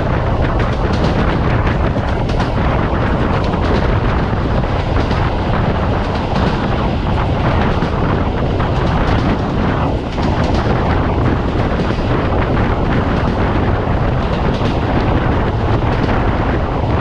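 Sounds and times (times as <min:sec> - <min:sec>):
rushing air: 0:00.0 - 0:17.0
track clacks and knocks: 0:00.0 - 0:17.0
train wheels rumbling on rails: 0:00.0 - 0:17.0.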